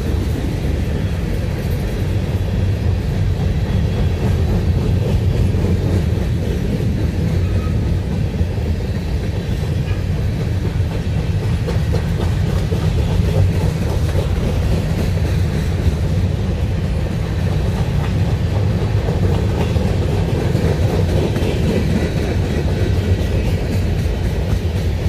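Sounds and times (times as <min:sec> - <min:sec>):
freight train cars rumbling: 0:00.0 - 0:25.0.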